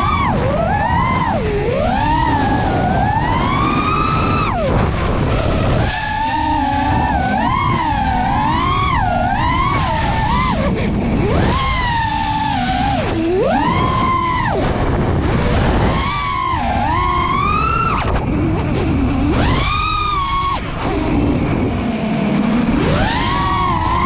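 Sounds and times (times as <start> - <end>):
drone motors whining: 0.0 - 24.0
heavy wind: 0.0 - 24.0
prop-wash rumble: 0.0 - 24.0.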